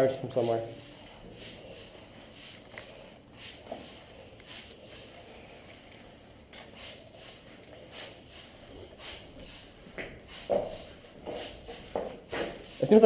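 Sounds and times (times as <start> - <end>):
soft rustling swishes: 0.0 - 13.0.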